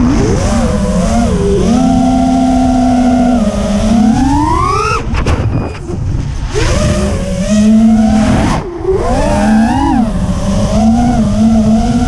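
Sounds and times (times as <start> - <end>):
heavy wind rumble: 0.0 - 12.0
quadcopter motors whining: 0.0 - 12.0.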